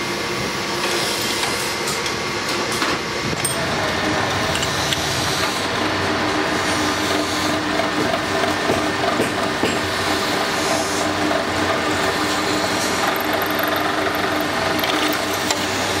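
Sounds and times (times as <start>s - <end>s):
drill press drilling metal: 0.7s - 16.0s.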